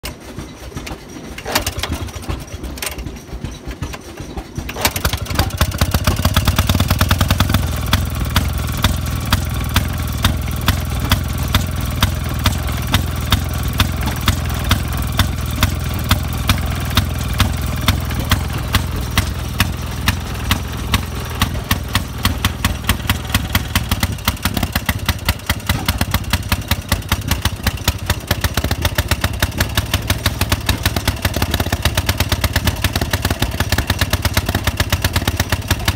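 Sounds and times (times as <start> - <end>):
small gasoline engine starting: 0.0 - 35.9.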